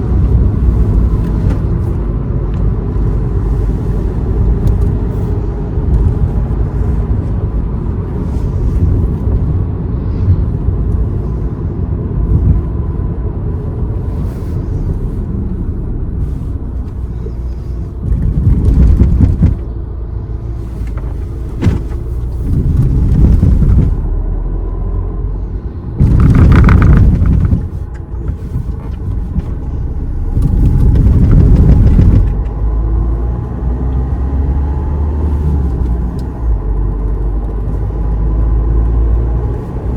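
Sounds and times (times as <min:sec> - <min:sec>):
car driving along road: 0:00.0 - 0:39.9.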